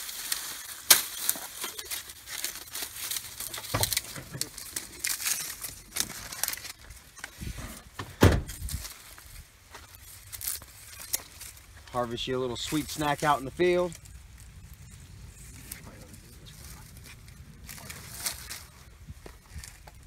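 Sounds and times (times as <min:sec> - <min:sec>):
dry leaves crackling and rustling: 0:00.0 - 0:07.6, 0:08.5 - 0:20.0.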